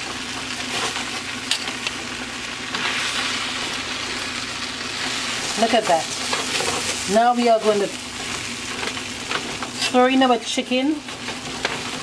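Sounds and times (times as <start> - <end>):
noodles sizzling in a pot: 0.0 - 12.0.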